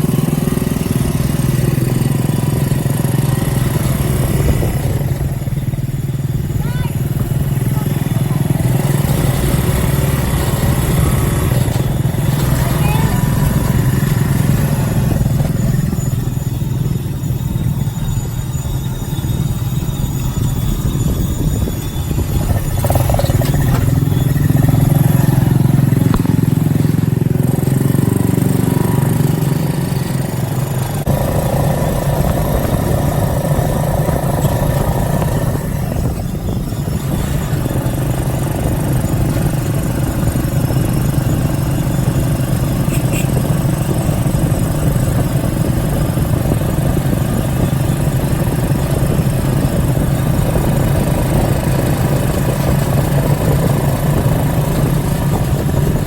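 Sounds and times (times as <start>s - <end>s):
motorbike engine running: 0.0s - 56.0s.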